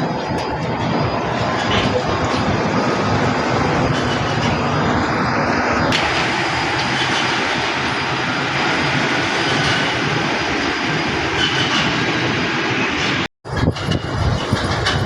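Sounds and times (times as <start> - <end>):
heavy machinery engine noise: 0.0 - 15.0.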